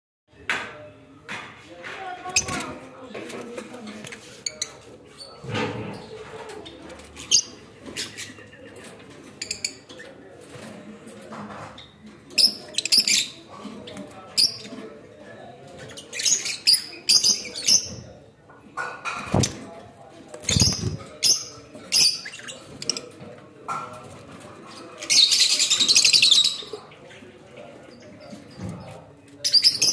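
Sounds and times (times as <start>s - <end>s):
birds chirping and chattering: 0.8s - 29.9s.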